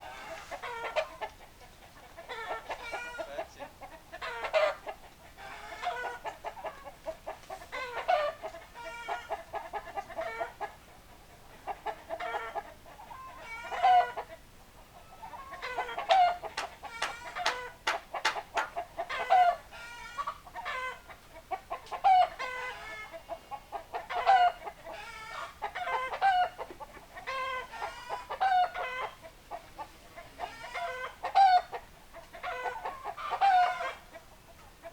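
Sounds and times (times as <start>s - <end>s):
chickens clucking: 0.0s - 34.9s
chickens squawking: 0.0s - 34.9s.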